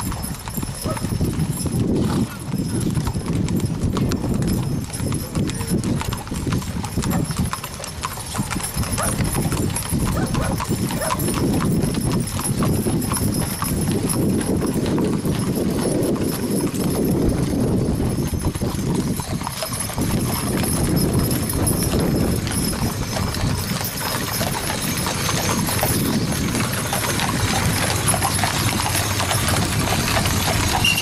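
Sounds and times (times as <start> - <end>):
hooves clip-clopping on pavement: 0.0 - 31.0.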